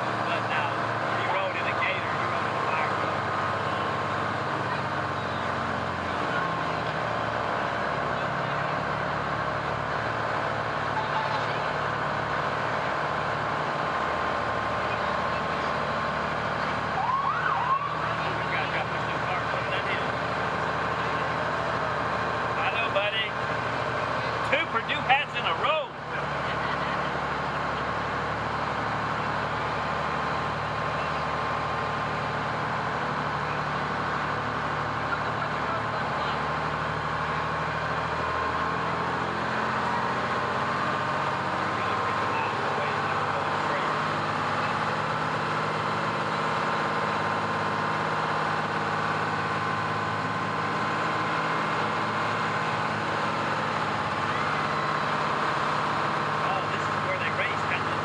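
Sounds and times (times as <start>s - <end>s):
fire truck engine idling: 0.0s - 58.0s.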